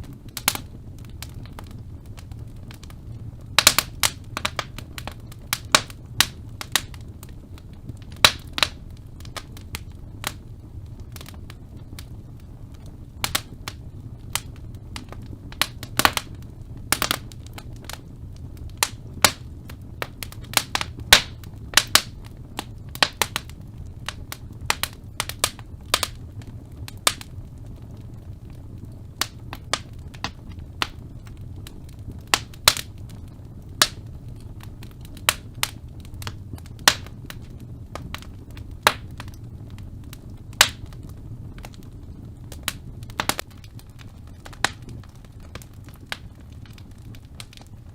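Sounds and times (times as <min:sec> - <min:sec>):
logs crackling and popping: 0:00.0 - 0:47.9
low rumble of flames: 0:00.0 - 0:47.9.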